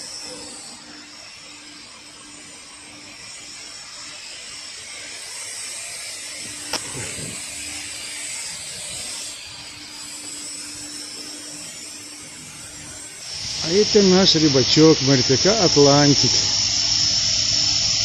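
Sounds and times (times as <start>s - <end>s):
machinery hum and hiss: 0.0s - 18.0s.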